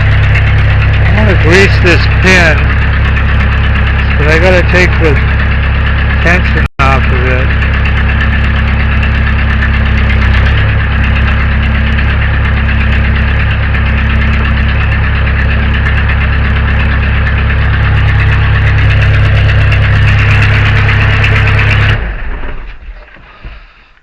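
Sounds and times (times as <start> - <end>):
backhoe engine running: 0.0 - 24.0.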